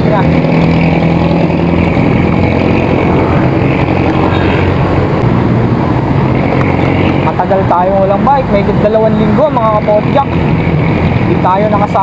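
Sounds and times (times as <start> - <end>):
vehicle engines humming: 0.0 - 12.0
wind on microphone: 0.0 - 12.0.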